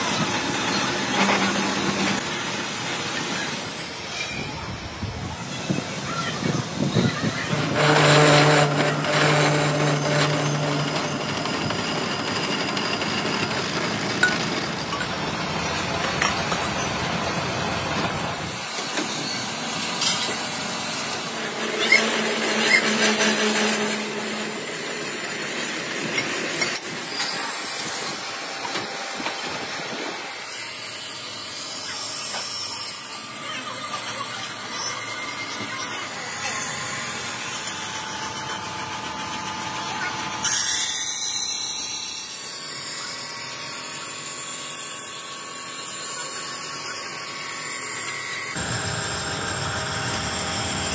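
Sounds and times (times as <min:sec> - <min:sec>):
lathes and machinery running: 0:00.0 - 0:50.9.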